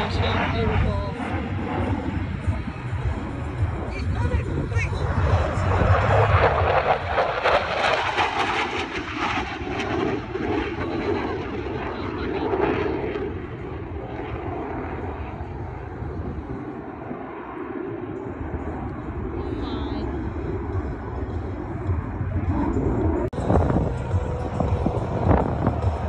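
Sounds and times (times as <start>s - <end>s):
jet engines roaring past: 0.0s - 26.0s.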